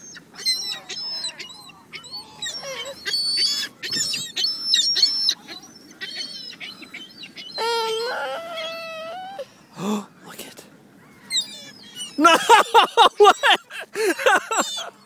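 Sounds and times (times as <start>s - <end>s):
birds squealing calls: 0.0s - 9.7s, 10.9s - 15.0s.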